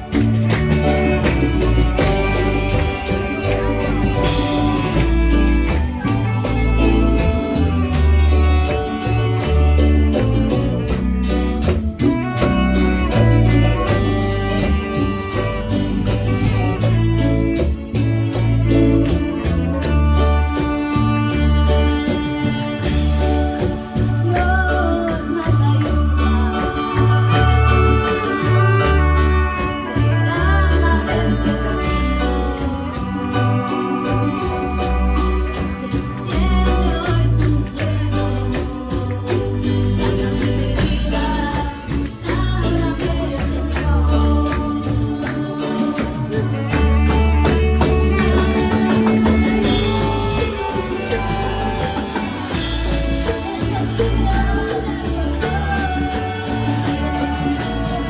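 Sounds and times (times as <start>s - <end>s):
band music with guitar and drums: 0.0s - 58.0s
song with singing and bass: 0.0s - 58.0s.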